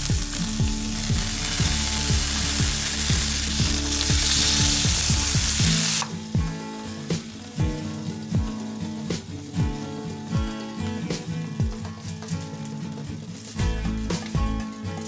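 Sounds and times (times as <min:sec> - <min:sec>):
background music with steady beat: 0:00.0 - 0:15.0
beef sizzling in a frying pan: 0:00.0 - 0:15.0.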